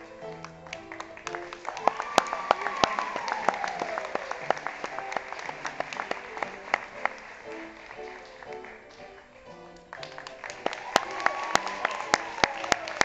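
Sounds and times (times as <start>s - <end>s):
audience clapping: 0.0s - 13.0s
music: 0.0s - 13.0s.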